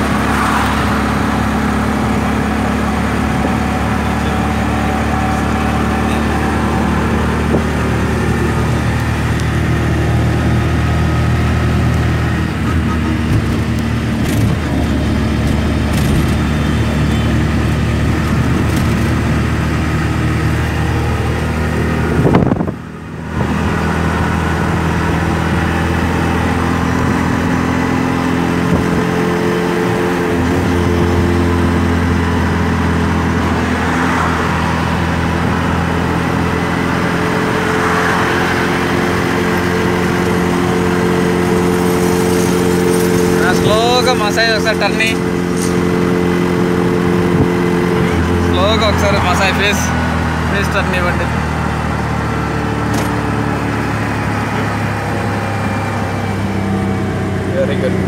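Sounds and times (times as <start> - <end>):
auto-rickshaw engine running: 0.0 - 58.0
road and wind rush: 0.0 - 58.0.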